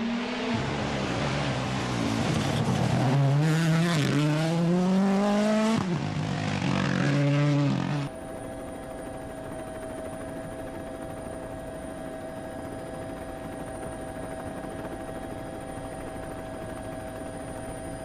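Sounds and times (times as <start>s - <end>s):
steady engine drone: 0.0s - 18.0s.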